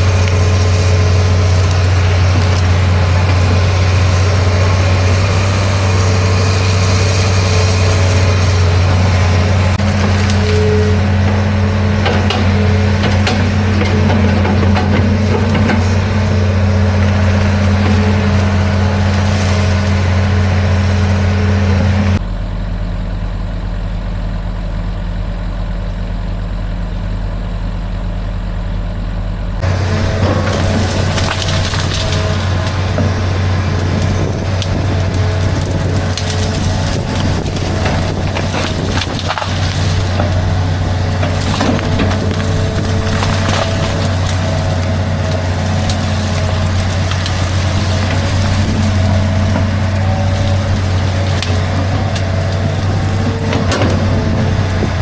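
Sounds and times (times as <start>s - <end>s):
wood cracking and splintering: 0.0s - 22.1s, 29.6s - 55.0s
excavator diesel engine: 0.0s - 55.0s.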